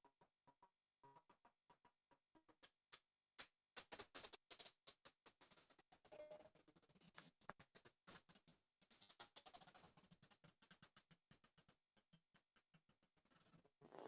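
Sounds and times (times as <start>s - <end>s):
faint irregular clicking: 0.1s - 13.8s.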